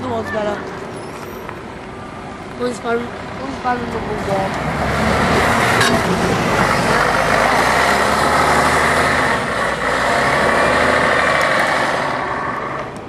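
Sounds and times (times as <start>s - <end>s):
bus diesel engine driving past: 0.0s - 13.0s.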